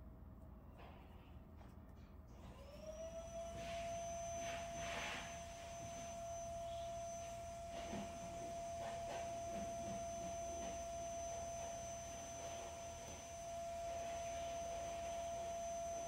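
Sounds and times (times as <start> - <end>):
high-pitched motor whine: 2.5 - 16.0.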